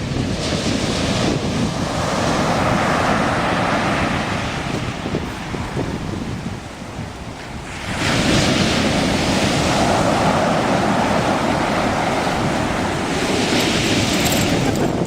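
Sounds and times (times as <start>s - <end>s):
sea surf washing ashore: 0.0s - 15.0s
wind buffeting microphone: 0.0s - 15.0s.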